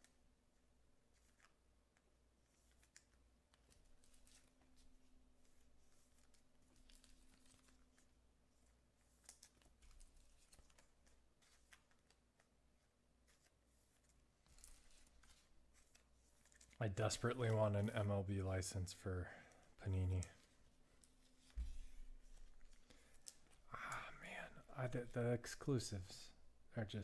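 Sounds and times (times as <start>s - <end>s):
trading cards being handled: 1.0s - 18.2s, 19.5s - 26.0s.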